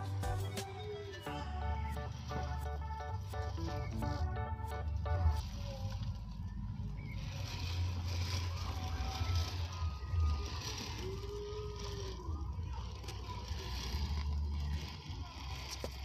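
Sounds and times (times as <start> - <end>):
low rumble: 0.0 - 15.4
electric motor and gears whining: 0.0 - 16.0
toy car driving over gravel: 0.0 - 16.0.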